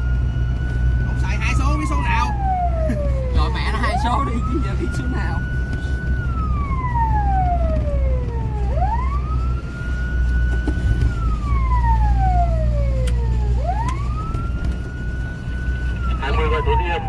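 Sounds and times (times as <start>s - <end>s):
fire engine wail siren: 0.0s - 17.0s
low engine rumble: 0.0s - 17.0s.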